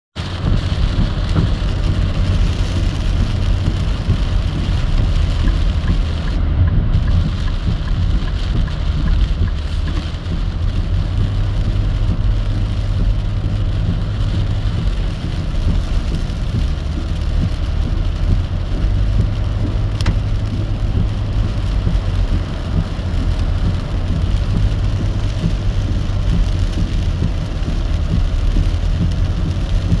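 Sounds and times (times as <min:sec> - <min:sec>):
car rumbling on road: 0:00.1 - 0:30.0
heavy rain on car: 0:00.2 - 0:30.0.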